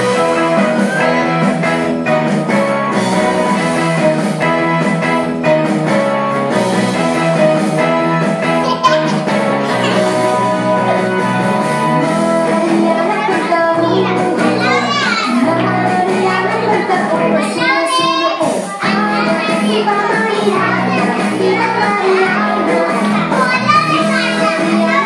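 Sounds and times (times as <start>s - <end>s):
children's song with guitar: 0.0s - 25.0s.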